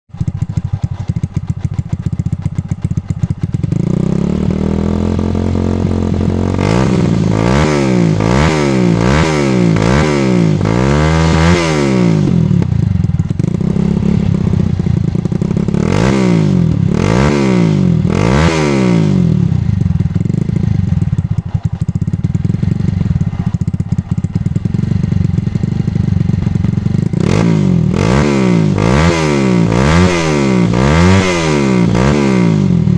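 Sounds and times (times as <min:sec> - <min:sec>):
motorcycle engine revving: 0:00.1 - 0:32.9.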